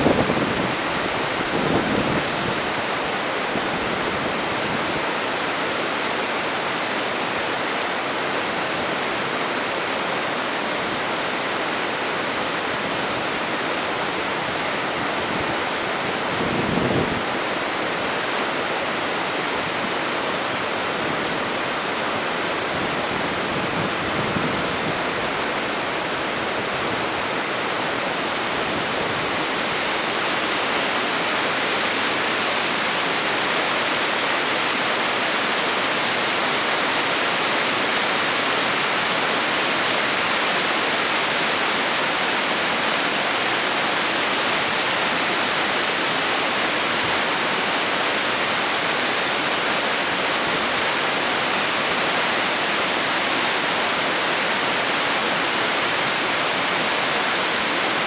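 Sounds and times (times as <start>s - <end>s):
whitewater rushing over rock ledges: 0.0s - 58.0s.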